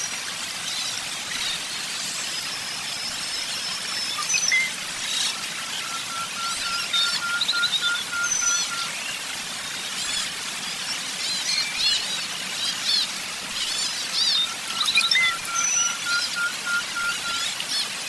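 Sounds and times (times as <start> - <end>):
songbirds chirping and singing: 1.4 - 9.3, 10.0 - 18.0.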